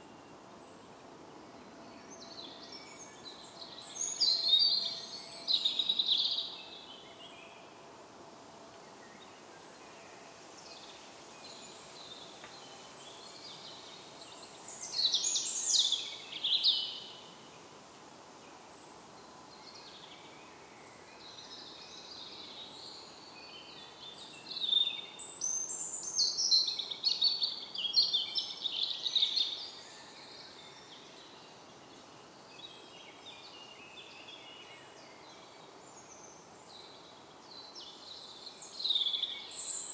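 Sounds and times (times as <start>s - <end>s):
songbirds singing: 0.0s - 17.8s, 18.4s - 39.9s
background hiss: 0.0s - 39.9s.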